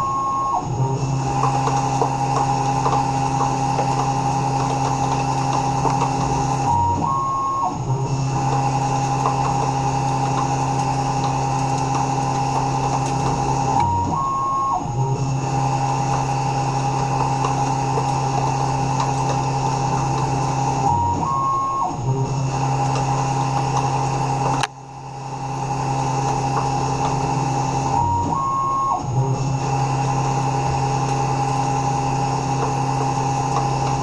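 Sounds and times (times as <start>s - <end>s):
machine motor whine: 0.0s - 34.0s.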